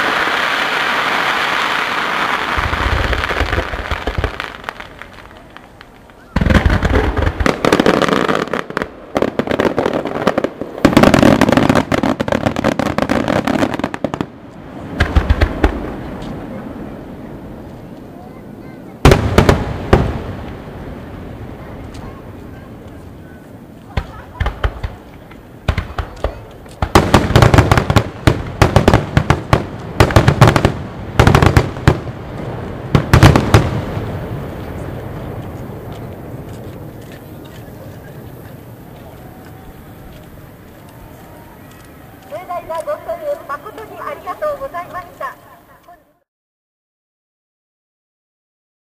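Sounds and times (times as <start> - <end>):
fireworks bursting and crackling: 0.0 - 46.1.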